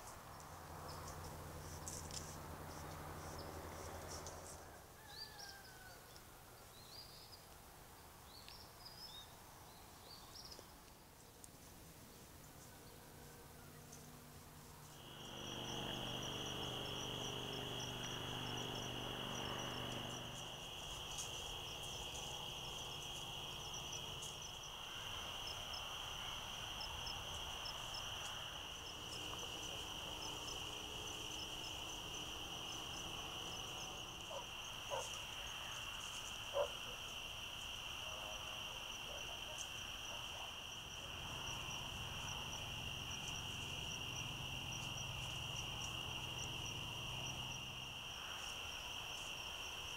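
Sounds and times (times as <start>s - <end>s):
insects trilling: 0.0s - 7.5s, 12.1s - 49.9s
insects chirping: 0.0s - 49.9s.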